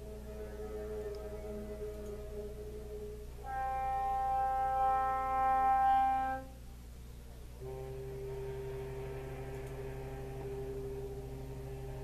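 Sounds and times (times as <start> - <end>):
high foghorn tone: 0.0 - 6.6, 7.6 - 12.0
low foghorn tone: 0.0 - 6.8, 7.5 - 12.0.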